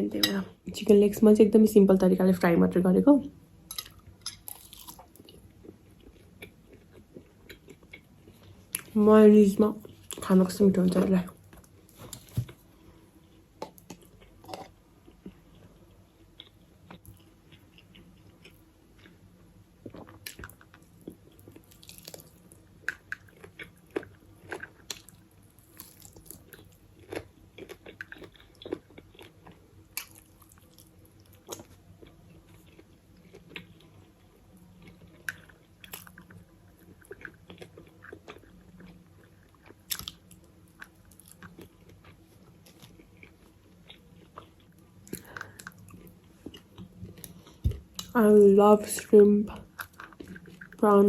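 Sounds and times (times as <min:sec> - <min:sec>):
faint low hum: 0:00.0 - 0:51.0
person chewing crunchy food: 0:03.7 - 0:09.0, 0:11.4 - 0:48.2, 0:49.6 - 0:50.8.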